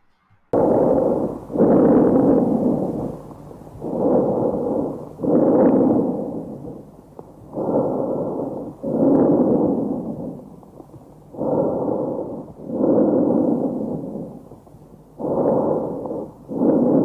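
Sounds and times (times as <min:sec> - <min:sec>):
person breathing in and out: 0:00.5 - 0:17.0.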